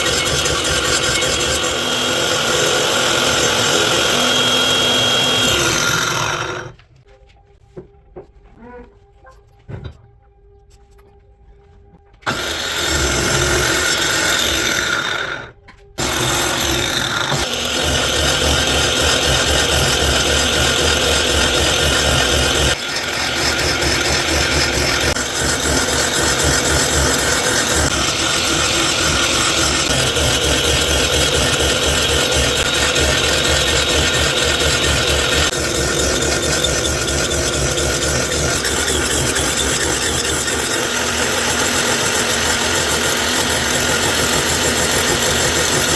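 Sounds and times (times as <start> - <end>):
power tool working wood: 0.0 - 6.8, 12.2 - 45.9.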